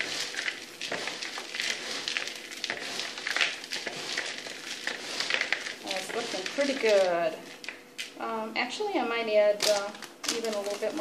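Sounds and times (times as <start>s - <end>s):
hands stirring dry muesli: 0.0s - 11.0s.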